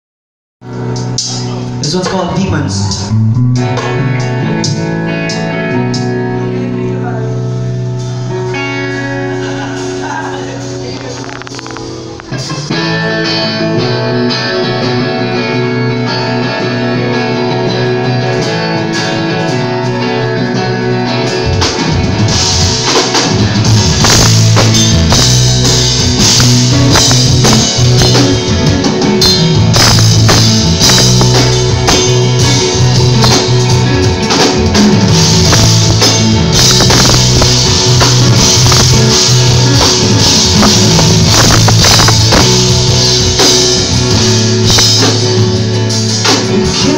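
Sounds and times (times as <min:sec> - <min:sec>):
bass guitar: 0:00.6 - 0:46.9
drum kit: 0:00.6 - 0:46.9
electric guitar: 0:00.6 - 0:46.9.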